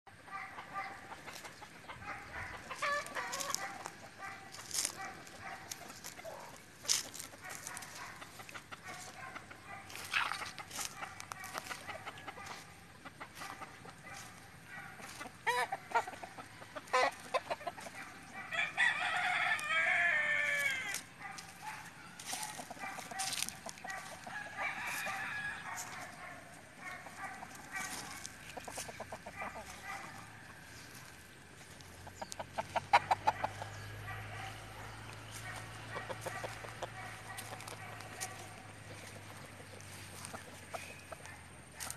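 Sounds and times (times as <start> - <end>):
roosters crowing and clucking: 0.1 - 41.9.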